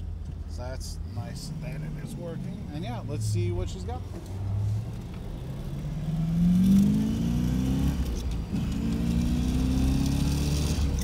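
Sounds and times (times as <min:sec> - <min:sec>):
car engine accelerating hard: 0:01.2 - 0:11.0.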